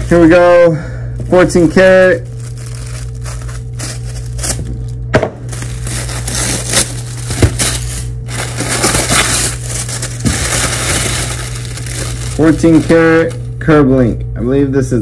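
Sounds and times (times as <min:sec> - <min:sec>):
low hum: 0:00.0 - 0:15.0
paper crinkling: 0:01.2 - 0:13.6.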